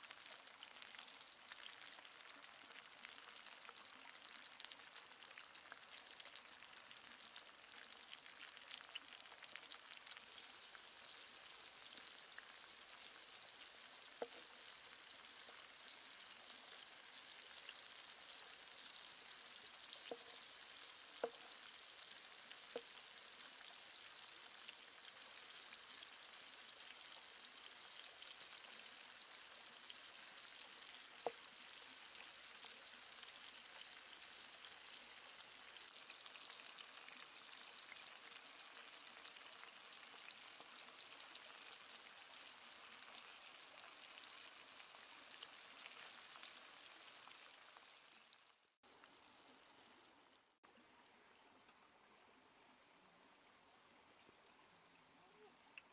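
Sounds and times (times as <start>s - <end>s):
vegetables frying hiss: 0.0s - 50.3s, 55.2s - 55.9s.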